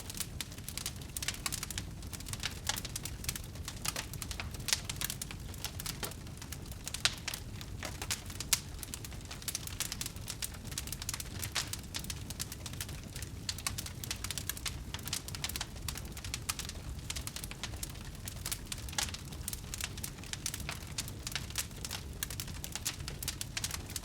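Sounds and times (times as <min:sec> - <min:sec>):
campfire crackling and popping: 0:00.0 - 0:24.0
low rumble of flames: 0:00.0 - 0:24.0.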